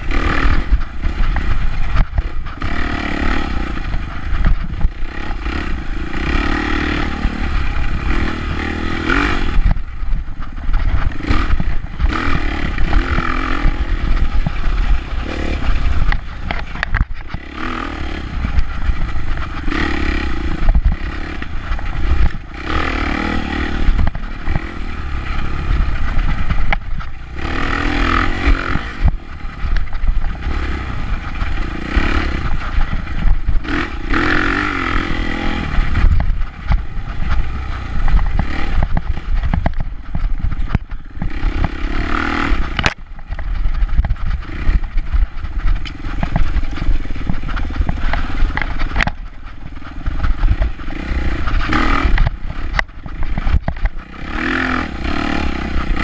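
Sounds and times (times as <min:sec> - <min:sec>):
bike rattling over bumps: 0:00.0 - 0:56.0
dirt bike engine revving: 0:00.0 - 0:56.0.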